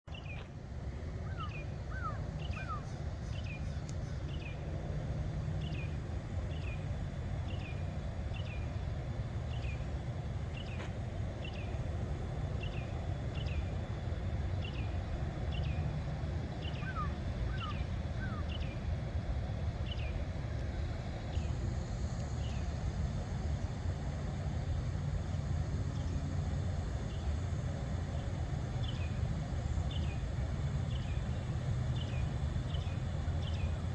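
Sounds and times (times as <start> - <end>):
steady low rumble: 0.1 - 33.9.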